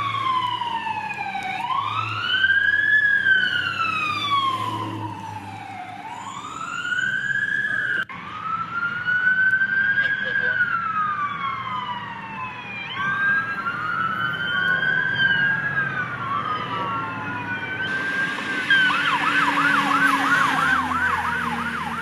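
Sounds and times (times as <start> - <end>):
emergency sirens wailing: 0.0 - 22.0.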